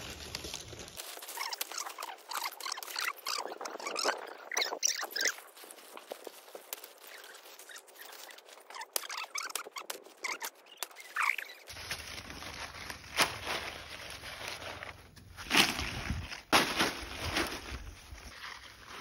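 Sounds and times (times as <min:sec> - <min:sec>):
palm leaves rustling and crackling: 0:00.0 - 0:19.0.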